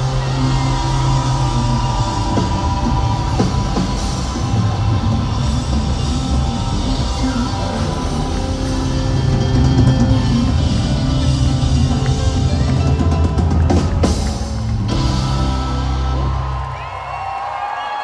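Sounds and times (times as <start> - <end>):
loud rock music with drums: 0.0 - 17.7.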